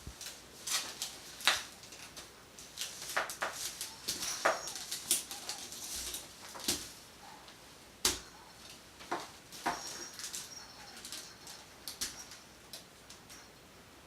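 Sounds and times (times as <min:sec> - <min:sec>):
basket clicks and rustles: 0:00.0 - 0:13.5.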